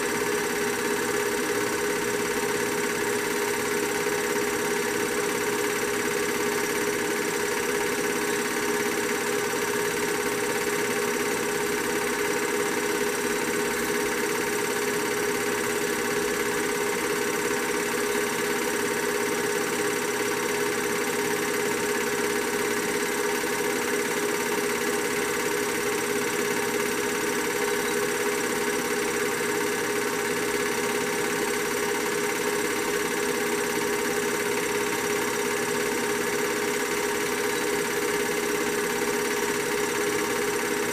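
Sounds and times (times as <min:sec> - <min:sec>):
film projector whirring: 0:00.0 - 0:40.9.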